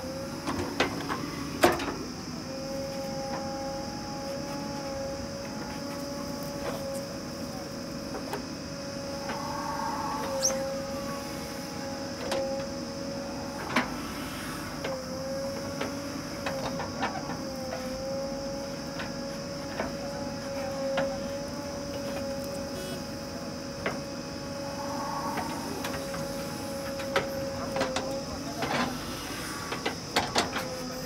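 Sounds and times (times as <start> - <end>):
backhoe engine and hydraulics whine: 0.0 - 31.0.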